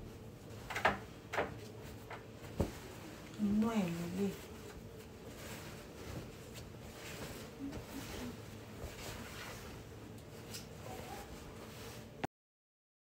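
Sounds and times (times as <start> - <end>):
low room hum: 0.0 - 12.3
fabric rustling: 1.7 - 12.2.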